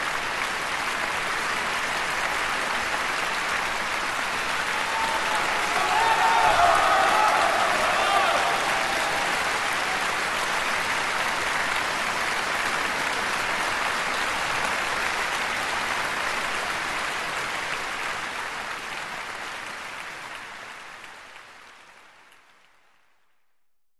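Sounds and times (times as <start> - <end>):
audience applause: 0.0 - 23.0.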